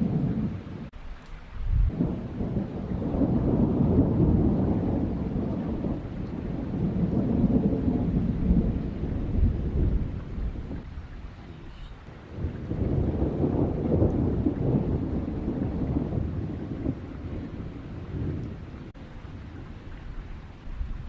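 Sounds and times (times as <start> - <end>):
rolling thunder: 0.0 - 0.9, 1.5 - 11.4, 12.1 - 21.0.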